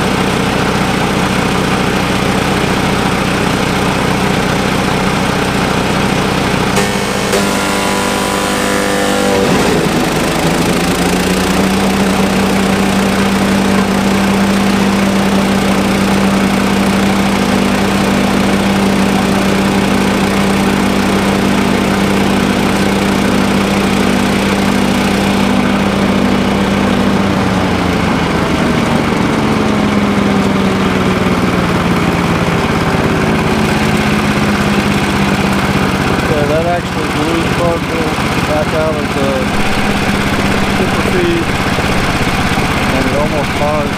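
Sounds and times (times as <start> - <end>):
wood chipper engine under load: 0.0 - 43.9.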